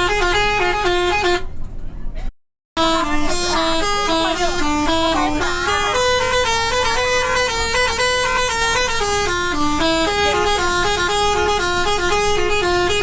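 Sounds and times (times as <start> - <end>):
multi-tone bus horn playing a tune: 0.0 - 1.6, 2.8 - 13.0.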